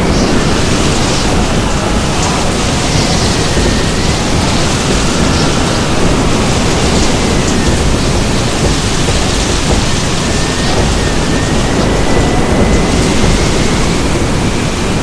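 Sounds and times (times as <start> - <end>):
faint high wind whistle: 0.0 - 15.0
strong wind rushing: 0.0 - 15.0.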